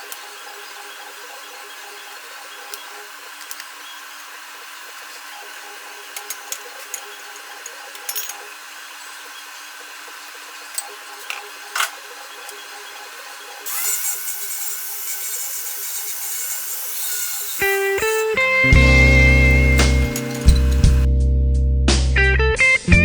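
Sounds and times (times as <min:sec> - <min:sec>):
power tool hissing: 0:00.0 - 0:21.1.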